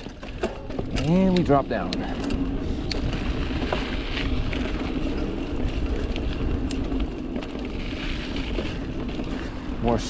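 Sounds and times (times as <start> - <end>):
bike rattles and clicks: 0.0 - 10.0
bike tyres rumbling on dirt: 0.0 - 10.0.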